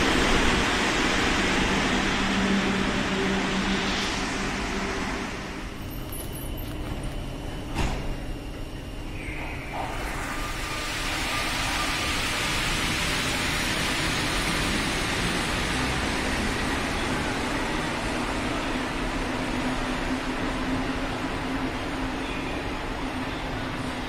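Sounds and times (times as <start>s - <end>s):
metro train rushing hiss: 0.0s - 24.0s.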